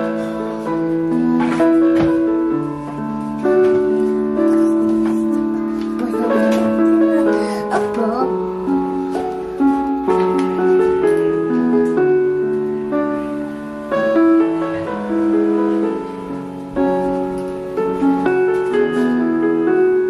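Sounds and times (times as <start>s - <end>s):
slow held keyboard notes: 0.0s - 20.0s.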